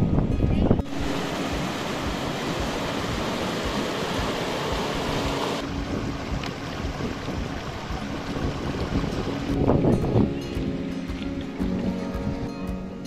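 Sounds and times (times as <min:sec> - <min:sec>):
flowing river water: 0:00.7 - 0:13.0.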